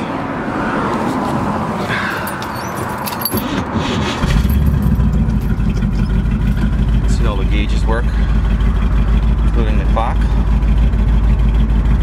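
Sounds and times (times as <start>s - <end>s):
car engine exhaust rumble: 1.8s - 12.0s.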